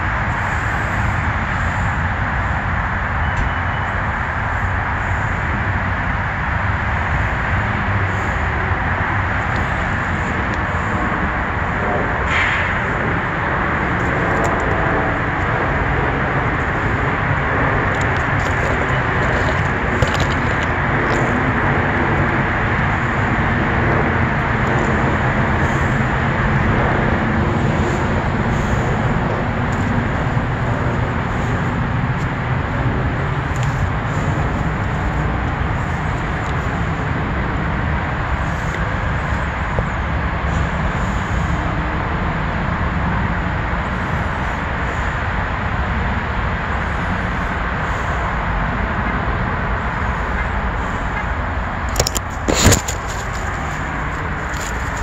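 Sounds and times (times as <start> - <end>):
city traffic rumble: 0.0 - 55.0
pitched engine hum: 0.0 - 55.0.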